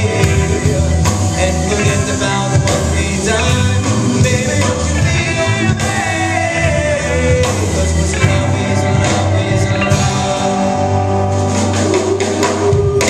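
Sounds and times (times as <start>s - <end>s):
held melody line: 0.0s - 13.0s
live rock band playing: 0.0s - 13.0s.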